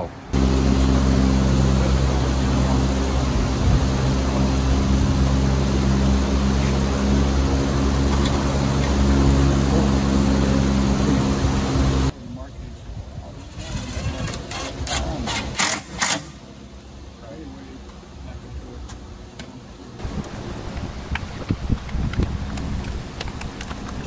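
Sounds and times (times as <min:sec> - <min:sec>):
loud engine drone: 0:00.0 - 0:12.5, 0:13.6 - 0:24.0.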